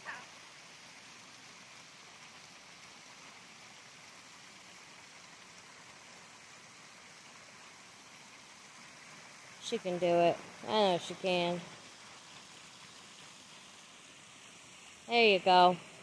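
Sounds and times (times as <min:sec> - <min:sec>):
water pouring onto rocks: 0:00.0 - 0:16.0.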